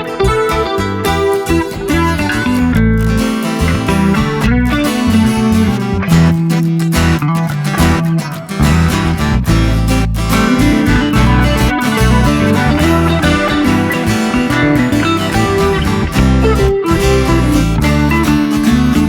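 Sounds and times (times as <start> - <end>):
guitar music over pa system: 0.0 - 19.0.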